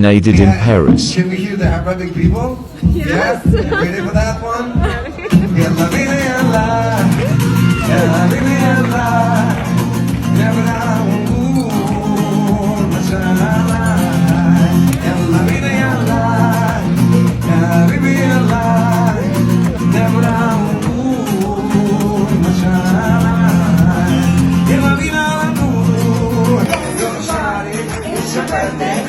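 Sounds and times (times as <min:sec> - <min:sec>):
acoustic guitar chords: 0:00.0 - 0:29.0
person singing: 0:00.2 - 0:29.0.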